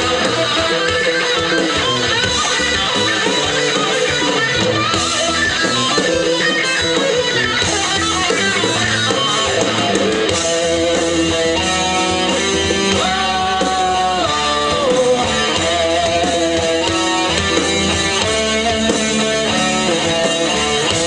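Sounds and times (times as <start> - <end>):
electric guitar: 0.0 - 21.0
heavy metal band playing: 0.0 - 21.0.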